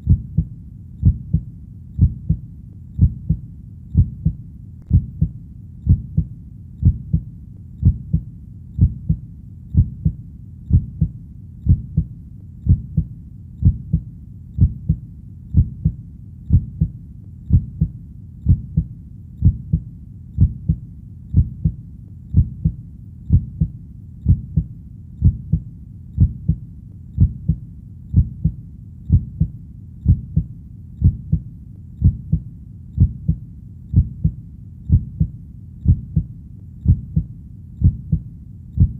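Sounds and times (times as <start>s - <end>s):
heartbeat: 0.0s - 38.9s.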